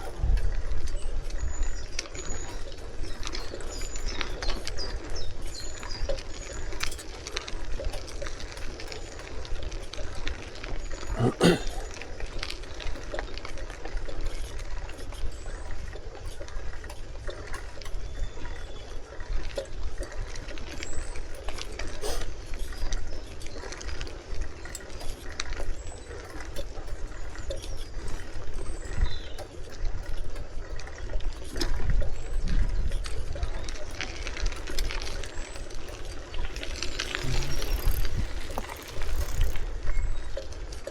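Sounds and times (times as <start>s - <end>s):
bicycle clicks and rattles: 0.0s - 40.9s
wind rumbling on microphone: 0.0s - 40.9s.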